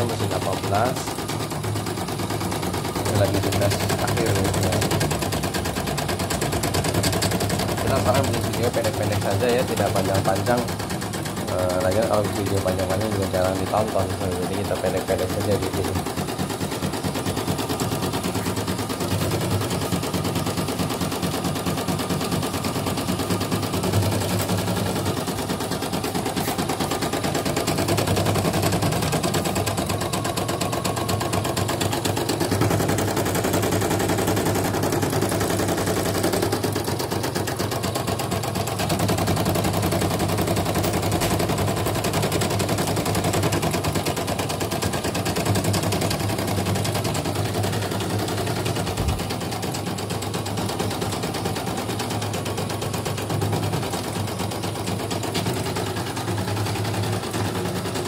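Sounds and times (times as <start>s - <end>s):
embroidery machine needle clatter: 0.0s - 58.0s.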